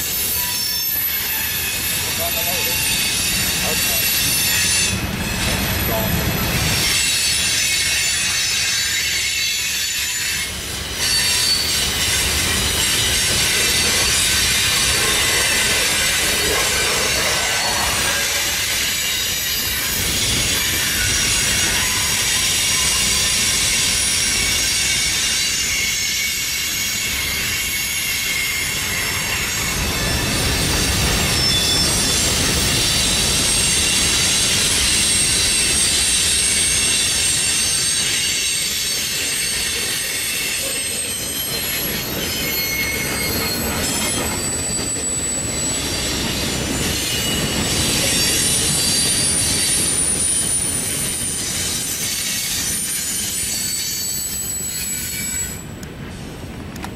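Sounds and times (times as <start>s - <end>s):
high-pitched wheel squeal: 0.0s - 23.4s, 24.0s - 55.7s
train wheels rumbling on rails: 0.0s - 56.9s.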